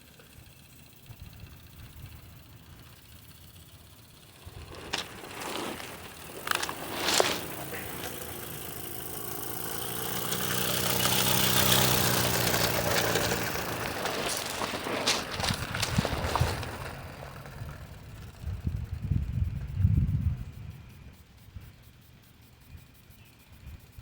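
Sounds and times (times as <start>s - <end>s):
steam engine running: 0.0s - 22.0s.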